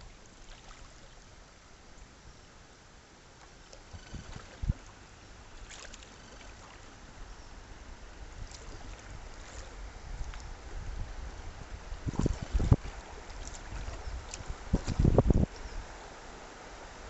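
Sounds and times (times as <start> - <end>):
river water rushing: 2.6 - 17.0.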